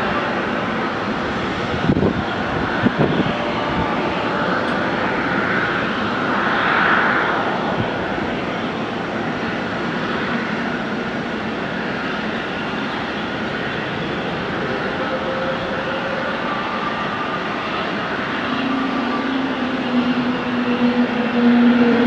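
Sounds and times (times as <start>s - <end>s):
jet engine whine and rush: 0.0s - 22.0s.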